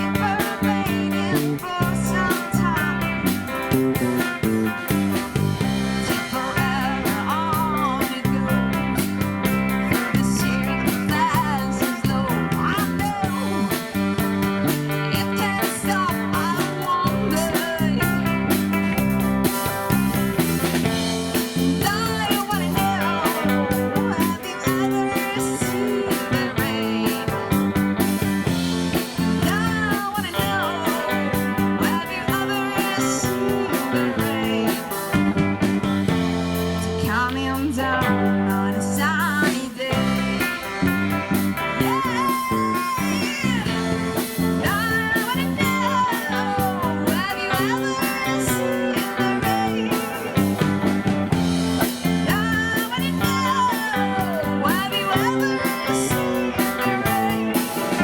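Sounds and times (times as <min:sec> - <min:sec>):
rock band playing live: 0:00.0 - 0:58.0
sliding guitar lead line: 0:00.0 - 0:58.0.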